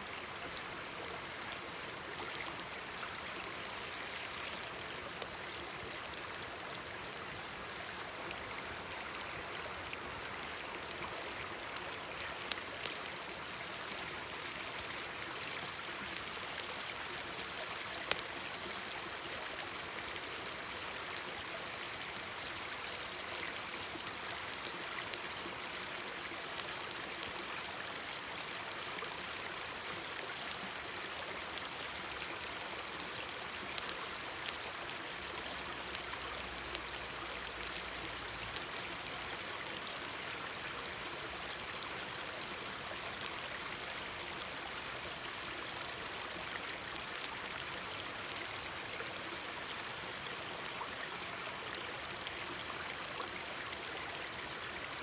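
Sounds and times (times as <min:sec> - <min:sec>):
stream babbling: 0:00.0 - 0:55.0
campfire crackling: 0:00.2 - 0:51.0, 0:51.6 - 0:53.6.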